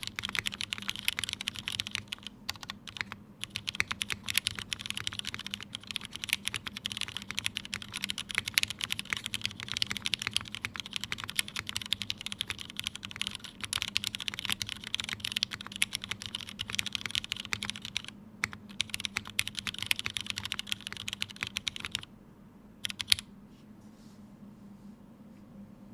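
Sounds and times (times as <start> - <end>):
mechanical keyboard typing: 0.0 - 22.1, 22.8 - 23.3.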